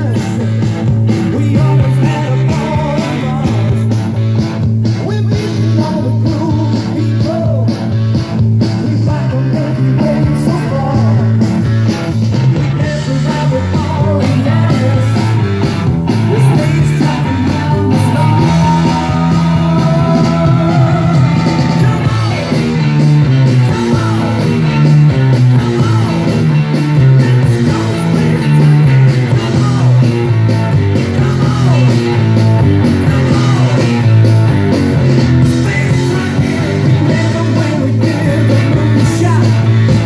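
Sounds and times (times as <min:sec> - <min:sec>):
song from speakers in a room: 0:00.0 - 0:40.0.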